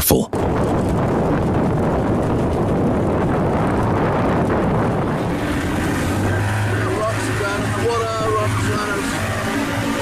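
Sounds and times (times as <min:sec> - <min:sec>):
volcanic eruption rumbling: 0:00.3 - 0:10.0
wind buffeting microphone: 0:00.3 - 0:10.0.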